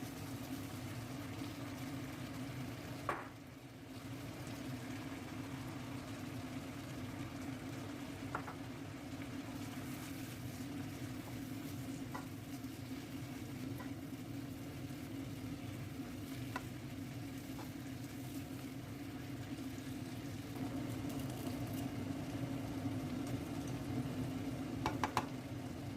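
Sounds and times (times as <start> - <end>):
food sizzling in frying pan: 0.0 - 25.9.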